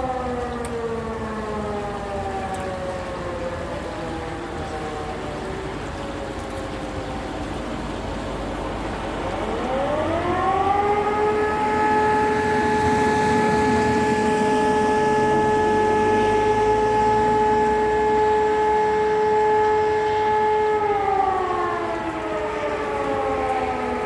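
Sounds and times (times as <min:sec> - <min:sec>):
distant fire siren howling: 0:00.0 - 0:24.0.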